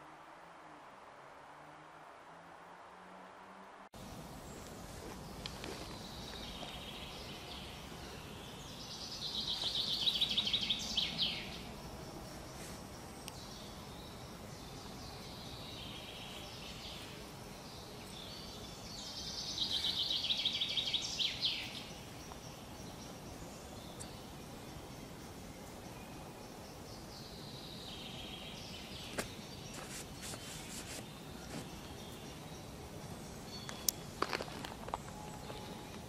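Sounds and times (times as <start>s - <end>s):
outdoor background hiss: 0.0s - 36.0s.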